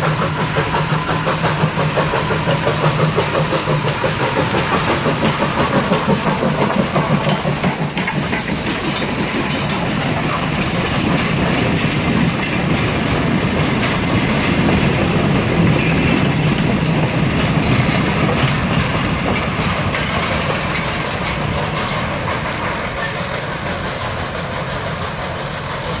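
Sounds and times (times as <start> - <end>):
steam locomotive chuffing: 0.0 - 26.0
train wheels clicking over rail joints: 0.0 - 26.0.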